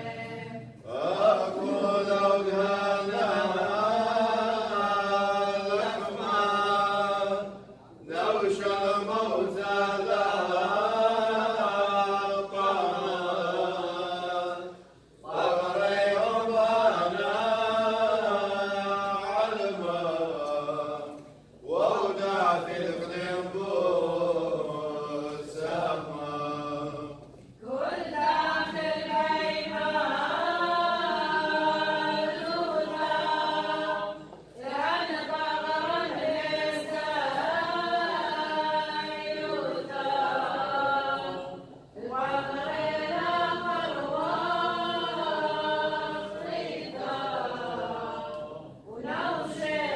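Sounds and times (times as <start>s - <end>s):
choir chanting a hymn: 0.0s - 49.9s.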